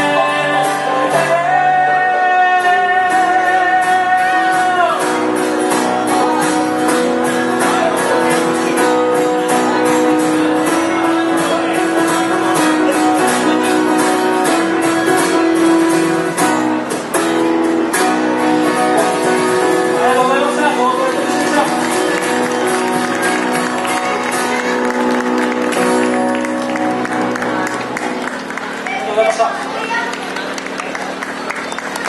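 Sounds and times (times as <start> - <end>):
live band music: 0.0 - 29.1
guitar held notes: 0.0 - 31.4.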